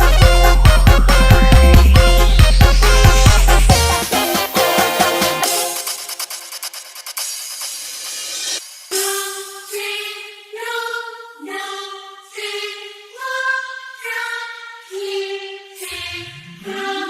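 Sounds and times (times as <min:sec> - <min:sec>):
choir-like dance music melody: 0:00.0 - 0:17.0.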